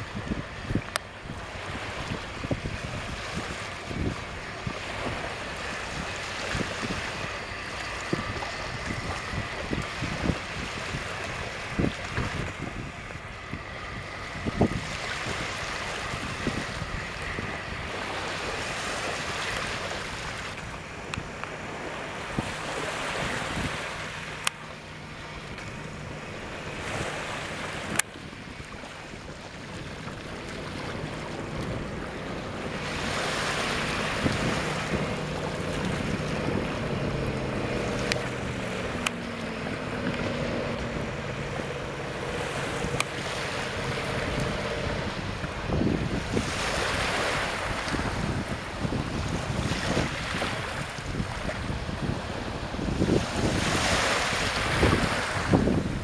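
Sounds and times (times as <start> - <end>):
boat engine passing: 0.0 - 56.0
water wash: 0.0 - 56.0
wind noise on microphone: 0.0 - 56.0.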